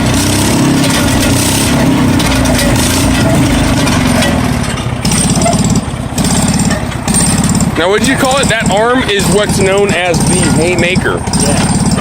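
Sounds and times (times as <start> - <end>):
engine running steadily: 0.0 - 12.0
hay baler mechanism working: 0.0 - 12.0.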